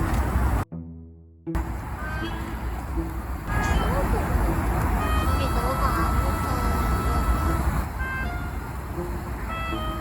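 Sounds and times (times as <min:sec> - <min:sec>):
road traffic rumble: 0:00.0 - 0:00.7, 0:01.5 - 0:10.0
background music: 0:00.6 - 0:10.0.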